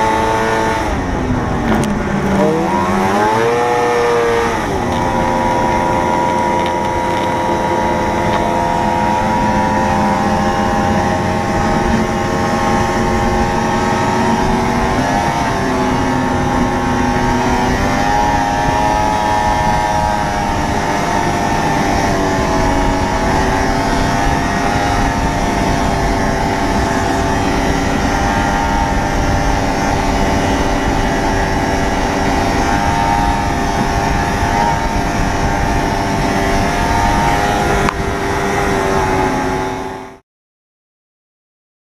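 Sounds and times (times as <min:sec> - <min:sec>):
snowmobile engine running: 0:00.0 - 0:40.2.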